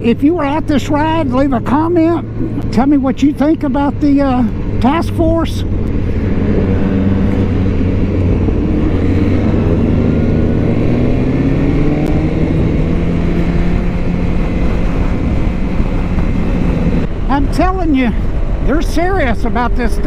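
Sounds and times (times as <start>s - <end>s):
motorcycle engine running: 0.0s - 20.0s
rushing wind noise: 0.0s - 20.0s.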